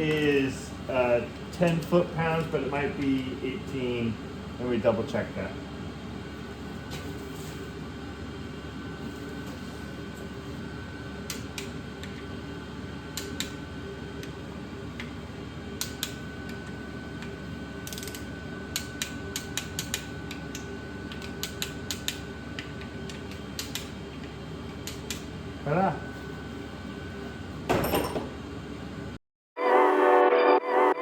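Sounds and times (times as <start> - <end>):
steady low hum: 0.0 - 29.2.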